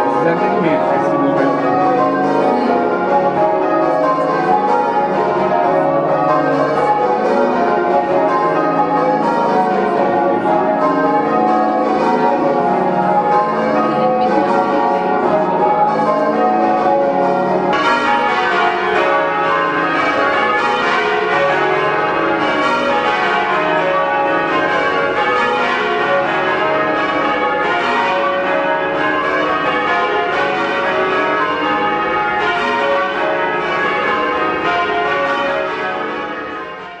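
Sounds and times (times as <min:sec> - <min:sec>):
church bells pealing: 0:00.0 - 0:37.0.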